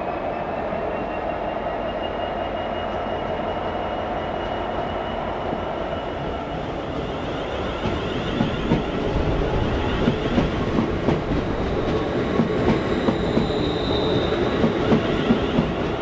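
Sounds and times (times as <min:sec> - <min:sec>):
faint high squeal: 0:00.0 - 0:10.4, 0:12.8 - 0:15.6
train wheel and rail rumble: 0:00.0 - 0:16.0.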